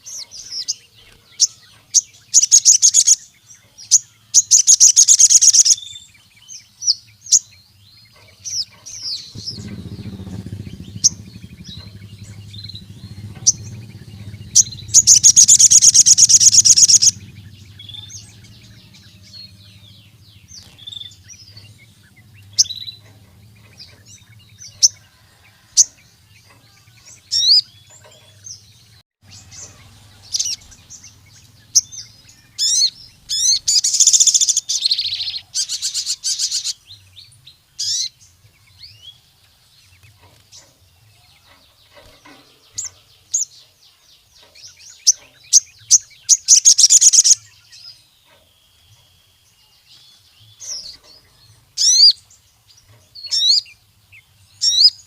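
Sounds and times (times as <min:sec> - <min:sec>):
sunbird chirps and trills: 0:00.0 - 0:55.0.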